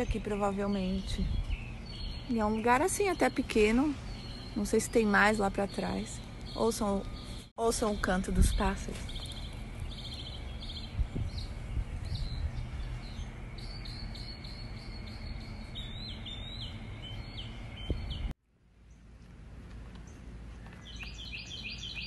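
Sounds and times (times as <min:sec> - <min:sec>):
songbirds singing: 0:00.0 - 0:22.0
steady high hum: 0:00.0 - 0:22.0.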